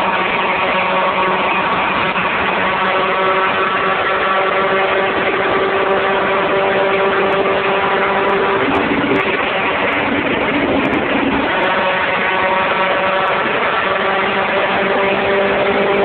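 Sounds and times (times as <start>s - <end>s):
car engine droning: 0.0s - 16.0s
wind and road noise: 0.0s - 16.0s.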